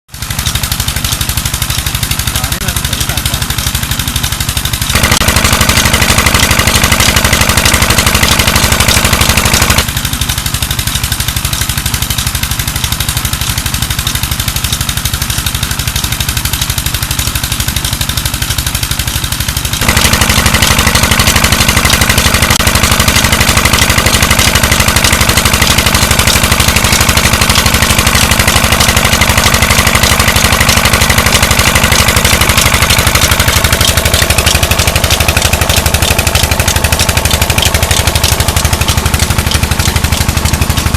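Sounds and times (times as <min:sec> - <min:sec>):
diesel pump engine running: 0:00.1 - 0:40.9.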